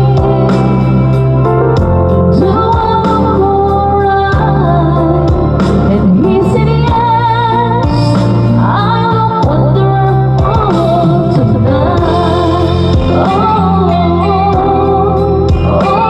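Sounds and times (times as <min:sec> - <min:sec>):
woman singing over a beat: 0:00.0 - 0:01.2, 0:01.8 - 0:16.0.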